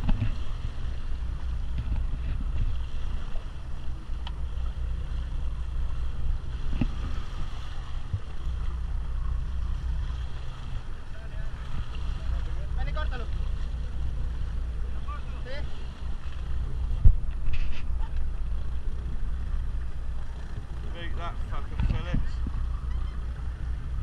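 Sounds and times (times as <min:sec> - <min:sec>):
boat engine running: 0:00.0 - 0:24.0
wind buffeting microphone: 0:00.0 - 0:24.0.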